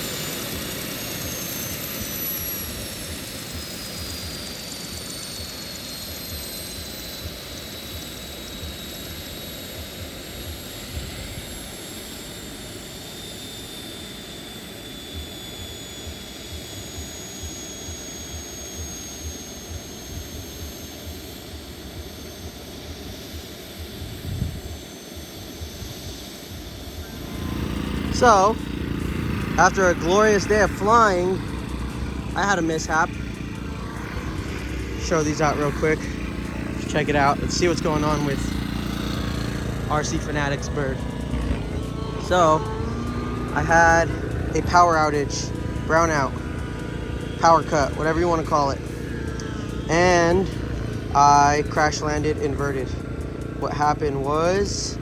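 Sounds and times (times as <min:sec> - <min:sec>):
model helicopter whine: 0:00.0 - 0:55.0.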